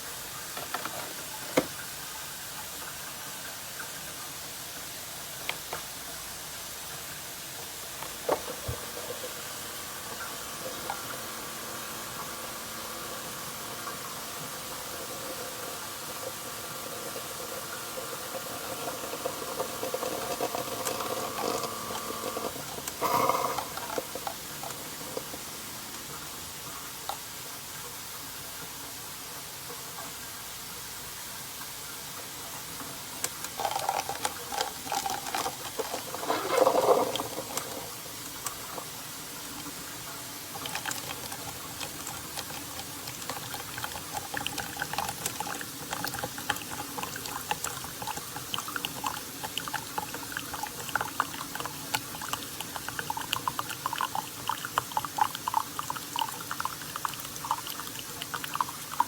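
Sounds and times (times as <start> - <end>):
coffee maker sputtering: 0.3 - 2.0, 7.0 - 27.4, 32.9 - 59.0
coffee pouring into cup: 0.3 - 3.1, 6.8 - 27.8, 32.8 - 59.0.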